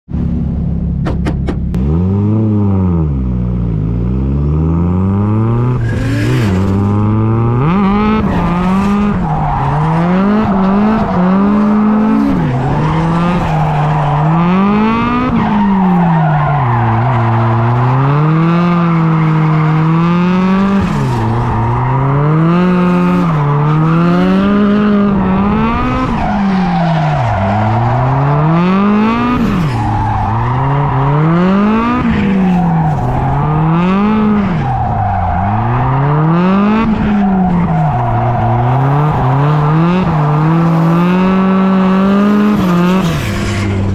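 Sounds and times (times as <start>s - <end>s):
car engine revving: 0.1s - 43.9s.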